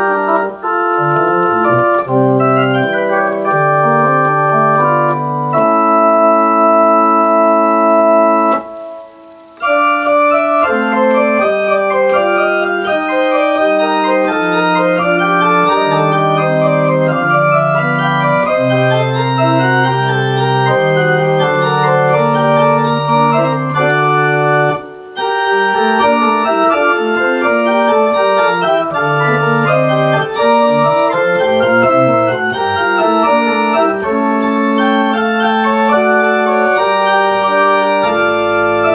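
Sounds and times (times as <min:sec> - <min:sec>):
organ playing: 0:00.0 - 0:38.9.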